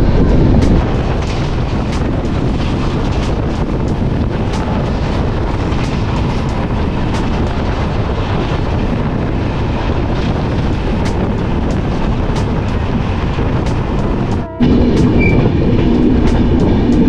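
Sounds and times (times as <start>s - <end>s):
rumbling train wheels: 0.0s - 17.0s
rush of wind: 0.0s - 17.0s.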